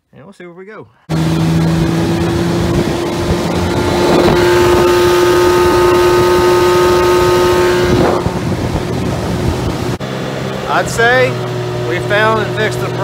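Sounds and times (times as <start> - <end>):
outboard motor running: 1.1 - 13.0.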